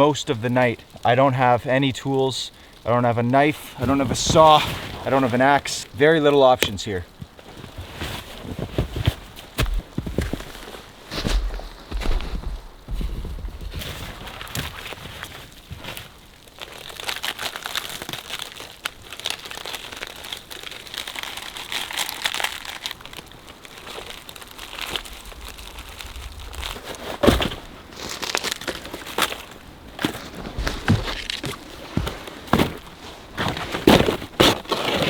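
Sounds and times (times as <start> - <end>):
twigs crunching and crackling: 0.0 - 35.0.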